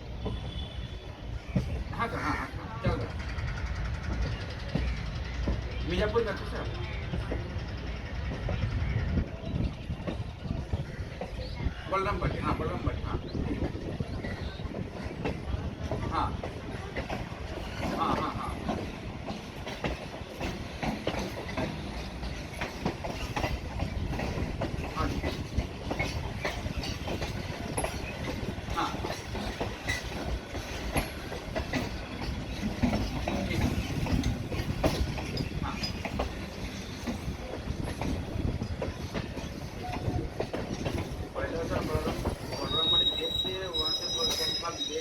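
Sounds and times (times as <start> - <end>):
train rumble: 0.0 - 45.0
train wheels clattering over rail joints: 0.0 - 45.0.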